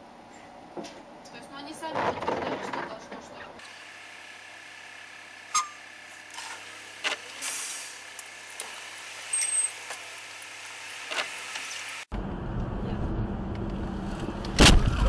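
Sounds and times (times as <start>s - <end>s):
city street traffic: 2.7s - 15.0s.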